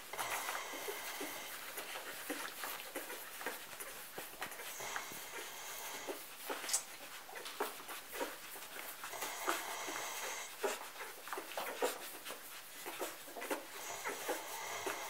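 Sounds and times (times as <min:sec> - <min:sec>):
puppies squeaking and whimpering: 0:00.2 - 0:15.0.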